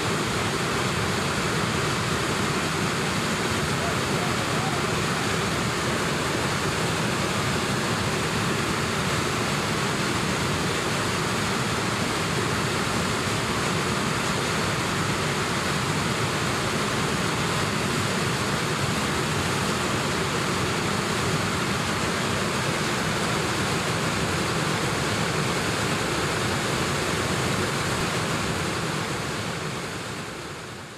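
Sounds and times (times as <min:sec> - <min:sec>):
whitewater rushing: 0:00.0 - 0:30.9.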